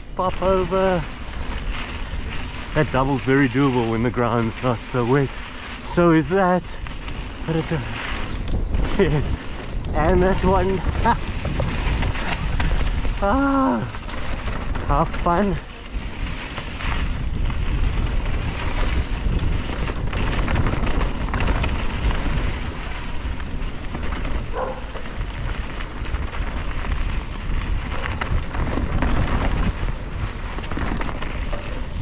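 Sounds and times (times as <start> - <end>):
tyres rumbling on trail: 0.0 - 32.0
wind rushing over microphone: 0.0 - 32.0.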